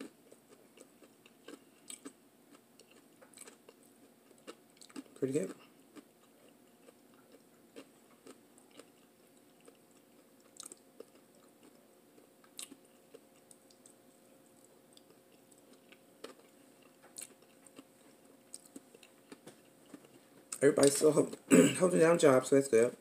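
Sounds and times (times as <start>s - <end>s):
faint chewing with mouth clicks: 0.0s - 21.5s
low steady hum: 0.0s - 23.0s.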